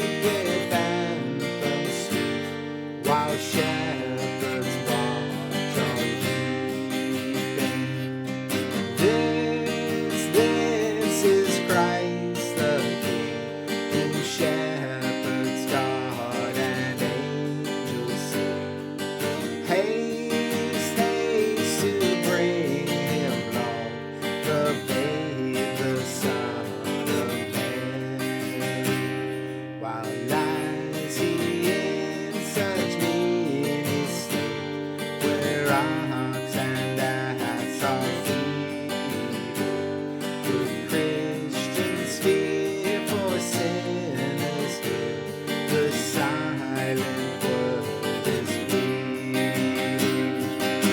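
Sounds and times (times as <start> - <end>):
acoustic guitar playing: 0.0 - 50.9.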